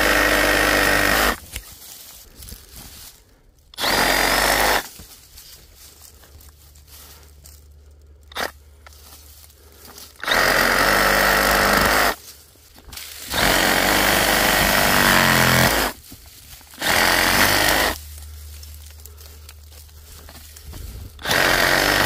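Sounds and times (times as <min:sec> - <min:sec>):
reciprocating saw cutting saplings: 0:00.0 - 0:22.0.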